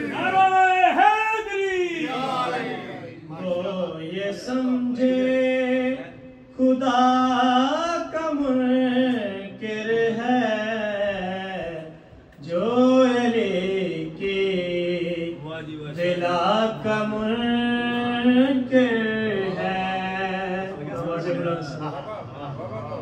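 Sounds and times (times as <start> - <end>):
man chanting: 0.0 - 21.8.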